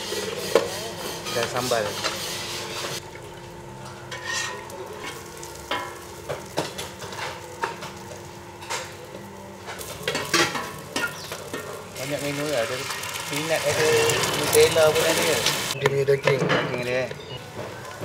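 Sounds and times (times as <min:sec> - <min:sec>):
frying sizzle: 0:00.0 - 0:18.0.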